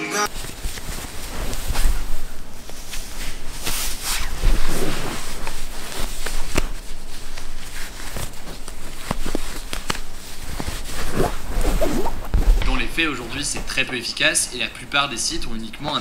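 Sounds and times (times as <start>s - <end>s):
steady hiss: 0.3s - 16.0s.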